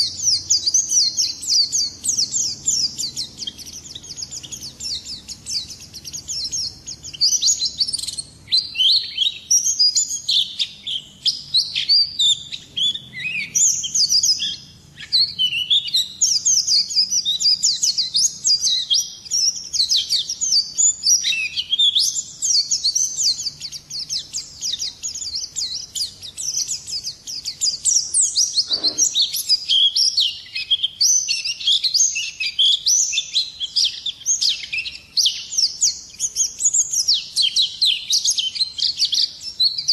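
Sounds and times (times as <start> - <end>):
bird singing twittering trills: 0.0 - 39.9.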